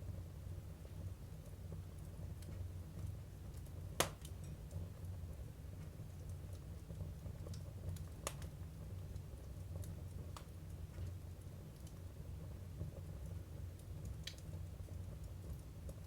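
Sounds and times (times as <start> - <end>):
firewood crackling and popping: 0.1 - 16.0.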